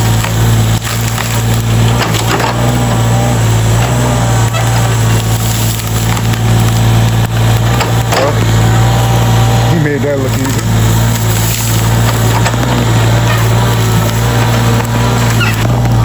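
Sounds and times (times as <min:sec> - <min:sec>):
excavator engine running: 0:00.0 - 0:16.0
wood cracking and splintering: 0:00.0 - 0:16.0.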